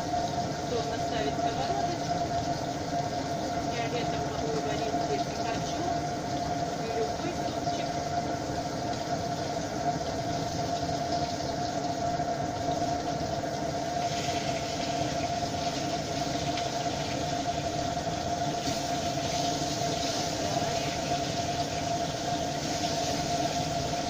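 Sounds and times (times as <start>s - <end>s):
constant high hum: 0.0s - 24.0s
fish sizzling in a pan: 0.0s - 24.0s
gas burner noise: 0.0s - 24.0s.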